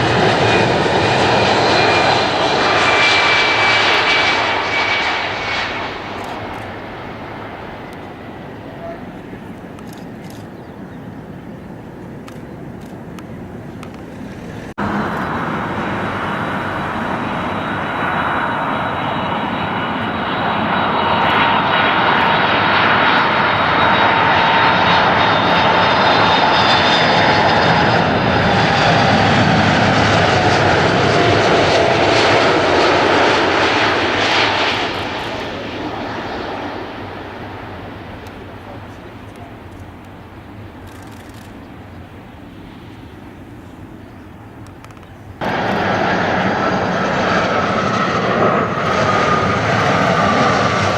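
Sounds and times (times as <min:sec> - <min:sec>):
airliner engines roaring past: 0:00.0 - 0:50.9.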